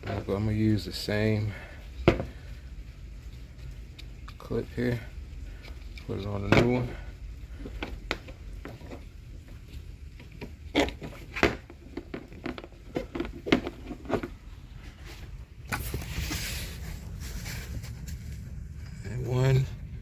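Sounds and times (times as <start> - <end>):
steady hiss: 0.0 - 11.7, 13.8 - 20.0.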